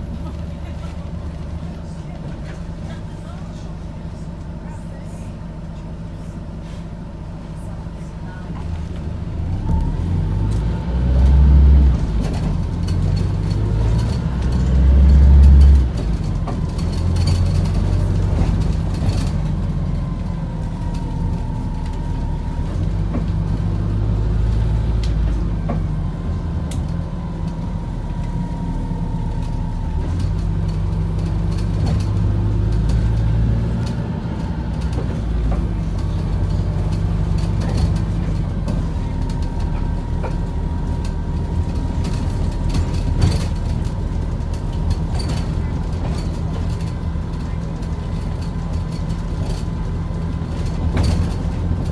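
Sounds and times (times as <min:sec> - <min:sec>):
bus drivetrain rumbling: 0:00.0 - 0:51.9.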